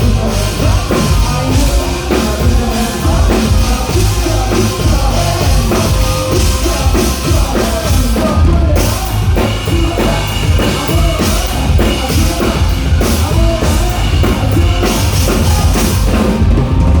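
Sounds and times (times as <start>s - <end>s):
drum kit beat: 0.0s - 17.0s
rock band playing: 0.0s - 17.0s.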